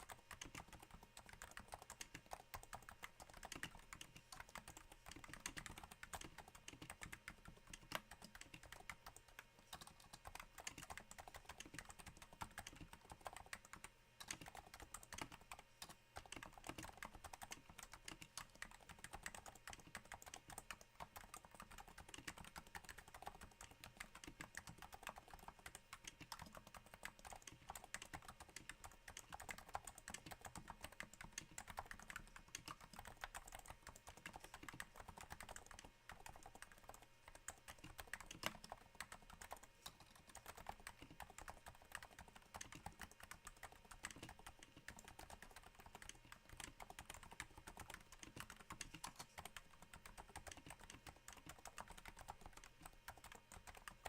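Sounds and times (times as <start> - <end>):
soft keyboard typing: 0.0 - 54.0.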